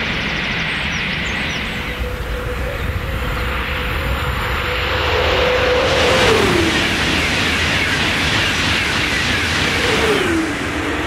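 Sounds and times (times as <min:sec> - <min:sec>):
train rushing past: 0:00.0 - 0:11.0
train whine dropping in pitch: 0:01.6 - 0:11.0.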